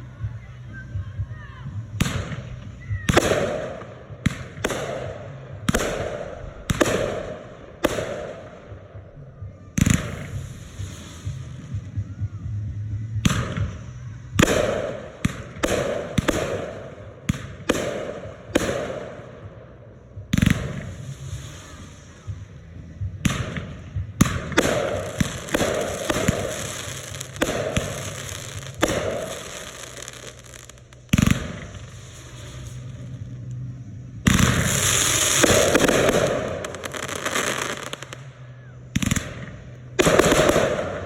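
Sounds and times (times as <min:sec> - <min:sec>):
fireworks bangs: 0:00.0 - 0:41.0
fireworks crackling and hissing: 0:00.0 - 0:41.0.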